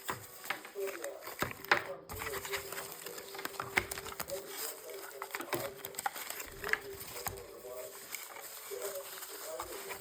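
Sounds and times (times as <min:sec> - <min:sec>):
hands handling packaging: 0:00.0 - 0:10.0.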